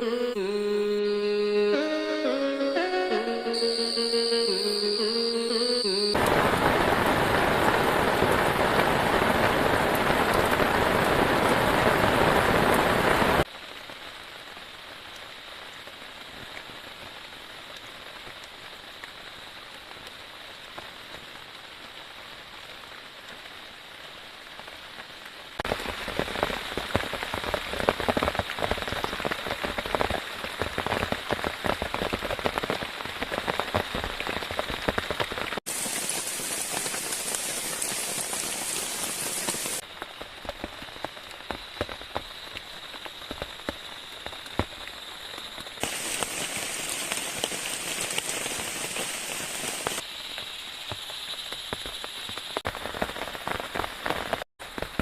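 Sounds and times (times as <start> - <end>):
rain falling: 2.8 - 55.0.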